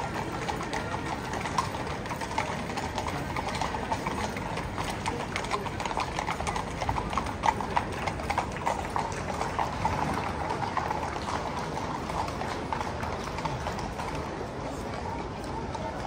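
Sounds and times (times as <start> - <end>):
horse hooves on pavement: 0.0 - 16.0.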